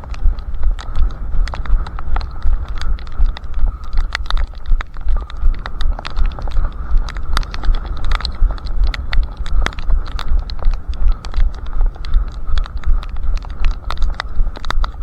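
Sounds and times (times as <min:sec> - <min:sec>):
runner's footsteps: 0:00.0 - 0:15.0
sharp ticks: 0:00.0 - 0:15.0
wind rumble: 0:00.0 - 0:15.0.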